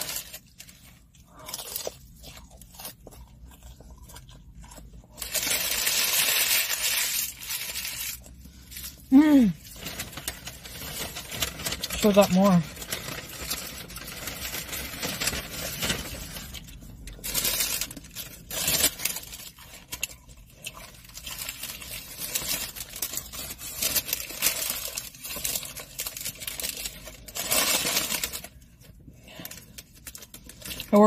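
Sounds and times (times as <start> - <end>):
paper wrappers crinkling: 0.0 - 3.0, 5.1 - 31.0.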